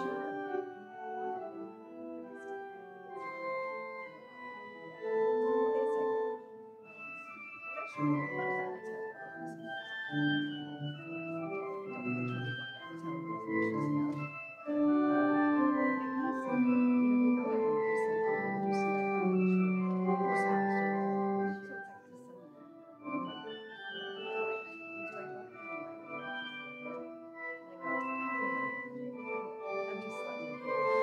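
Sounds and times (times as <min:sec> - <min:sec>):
church organ chords: 0:00.0 - 0:31.0.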